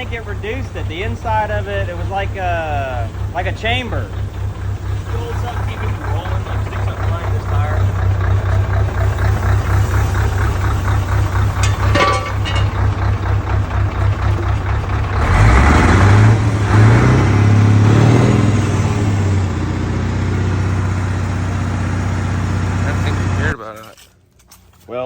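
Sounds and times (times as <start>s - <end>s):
truck diesel engine idling: 0.0s - 23.6s.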